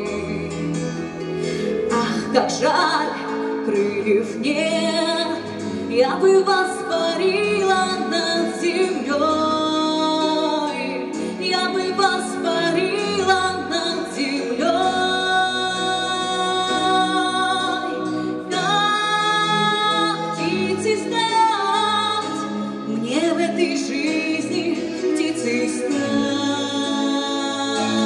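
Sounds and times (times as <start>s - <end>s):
woman singing into microphone: 0.0s - 28.0s.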